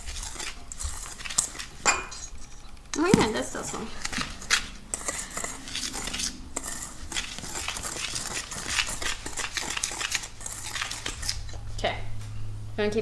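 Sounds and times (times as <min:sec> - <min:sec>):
wire whisk scraping metal bowl: 0:00.0 - 0:02.7, 0:03.5 - 0:11.6.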